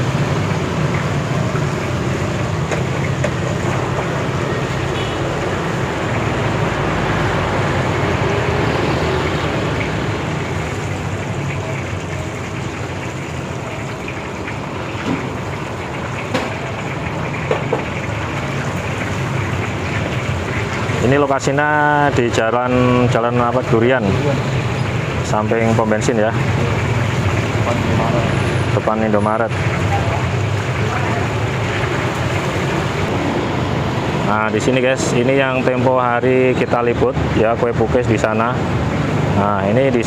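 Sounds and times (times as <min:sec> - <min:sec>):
chicken deep-frying in oil: 0:00.0 - 0:40.0.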